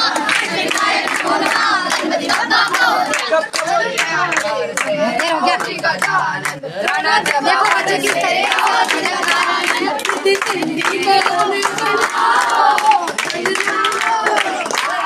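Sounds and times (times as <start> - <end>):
hands clapping: 0.0 - 15.0
boys shouting and chanting: 1.3 - 15.0.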